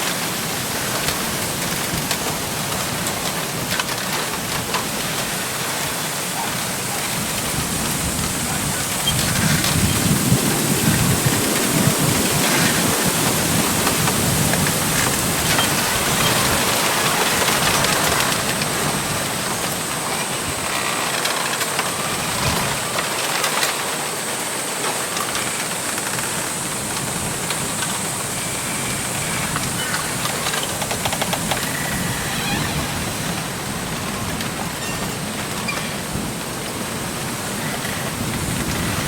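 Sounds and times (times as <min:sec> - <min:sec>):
wind rushing through bamboo: 0:00.0 - 0:39.0.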